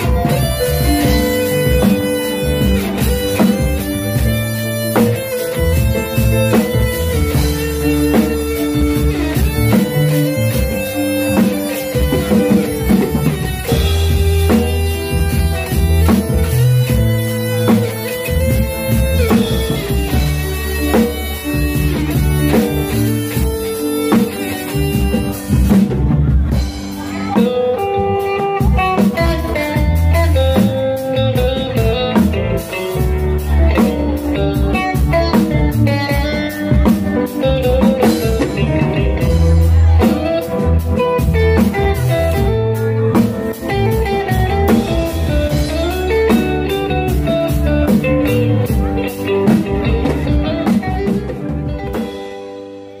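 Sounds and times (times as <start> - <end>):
low bass notes: 0.0 - 52.0
drum kit: 0.0 - 53.0
electric guitar lead: 0.0 - 53.0.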